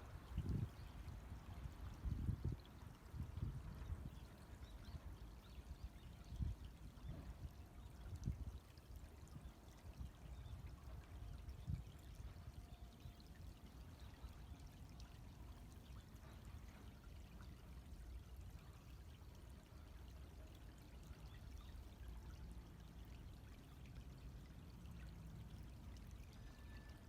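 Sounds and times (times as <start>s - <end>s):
stream trickling: 0.0s - 27.0s.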